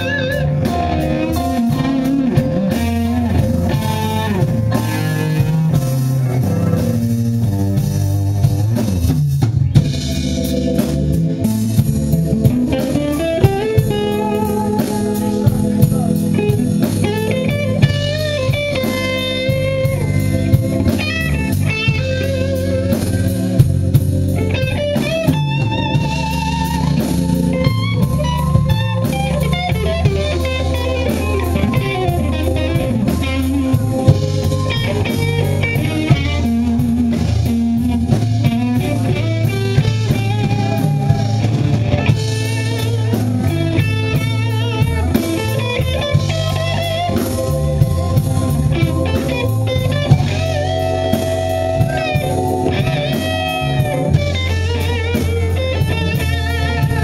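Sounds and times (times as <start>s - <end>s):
bass: 0.0s - 57.0s
drums keeping a steady beat: 0.0s - 57.0s
electric guitar melody: 0.0s - 57.0s
keyboards: 0.0s - 57.0s.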